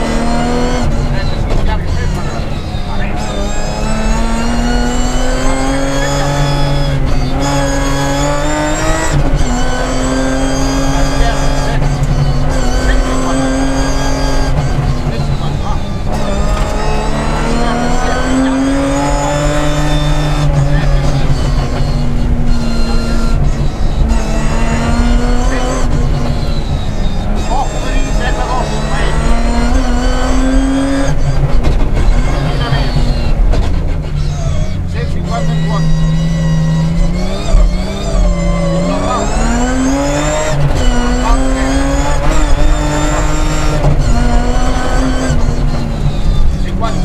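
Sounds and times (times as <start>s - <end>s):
rally car engine accelerating: 0.0s - 47.0s.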